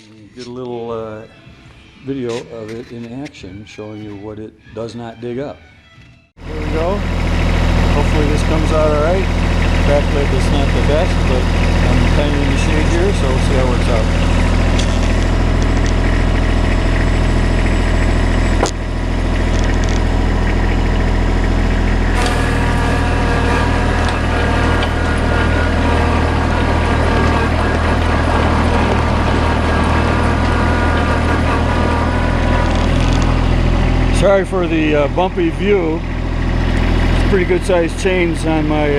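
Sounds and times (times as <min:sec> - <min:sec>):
high whine: 0:06.4 - 0:38.9
tractor engine running: 0:06.4 - 0:38.9.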